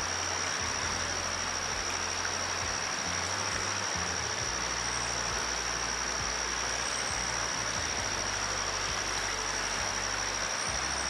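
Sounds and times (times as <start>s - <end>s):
river rapids rushing over rocks: 0.0s - 11.0s.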